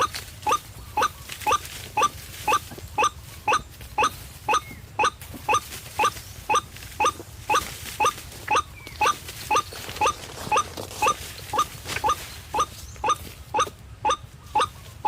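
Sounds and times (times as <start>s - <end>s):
waterhen call: 0.0s - 15.0s.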